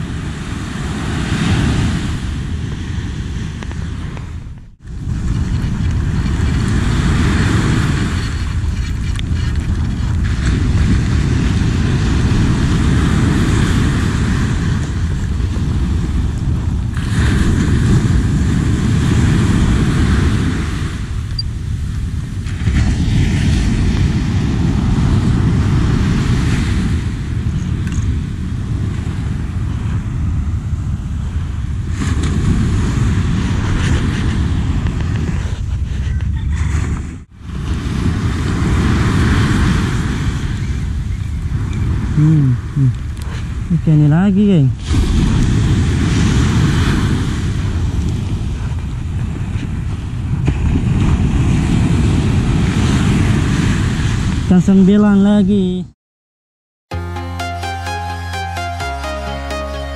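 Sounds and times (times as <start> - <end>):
surf washing onto beach: 0.0 - 36.0, 36.7 - 43.8, 44.6 - 54.5
wind buffeting microphone: 0.0 - 54.7.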